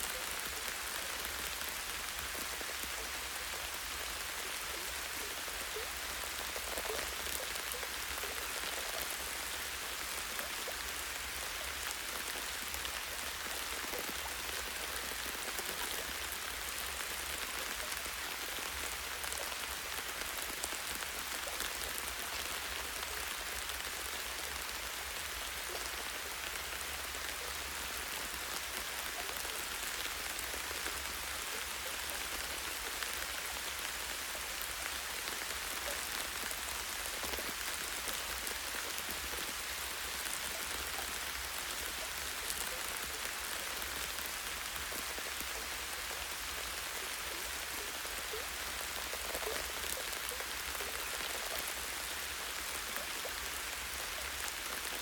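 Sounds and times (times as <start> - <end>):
light rain on tree branch: 0.0 - 55.0.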